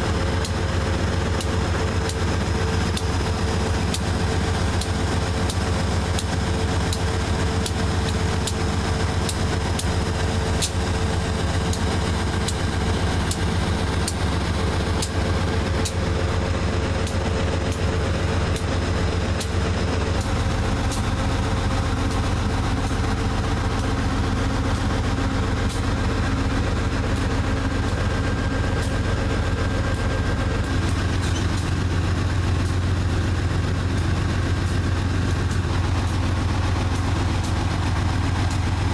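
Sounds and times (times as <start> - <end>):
diesel locomotive idling hum: 0.0 - 38.9.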